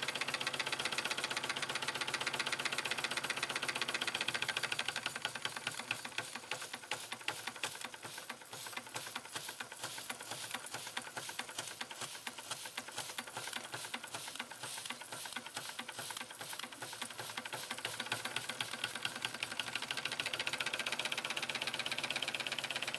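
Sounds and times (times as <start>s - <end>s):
toy steam engine clattering: 0.0s - 22.9s.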